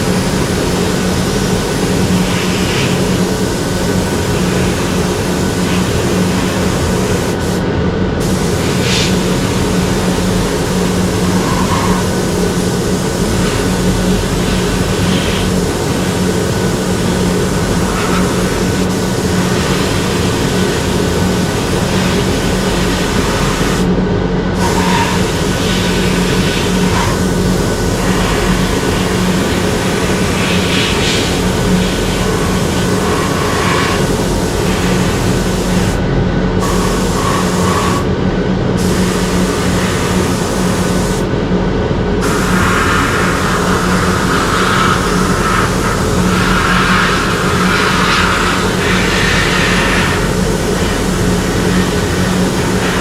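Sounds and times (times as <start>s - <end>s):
spray gun hissing: 0.0s - 41.4s, 42.1s - 53.0s
steady machine hum: 0.0s - 53.0s.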